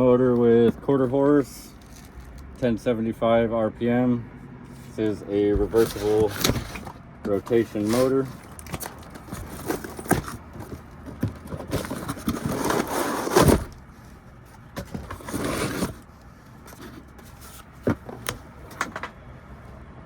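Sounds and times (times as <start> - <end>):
parts scraping and rustling: 0.0 - 2.8, 4.6 - 19.2.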